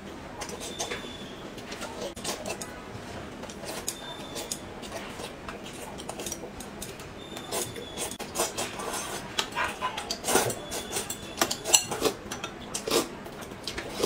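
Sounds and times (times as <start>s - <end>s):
noodles slurped and chewed: 0.4s - 14.0s.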